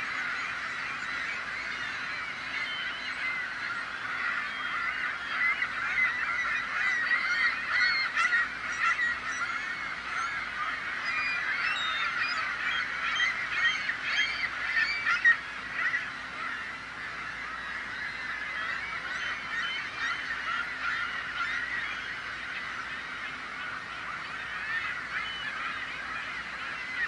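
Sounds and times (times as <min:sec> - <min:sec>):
gulls calling: 0:00.0 - 0:27.0.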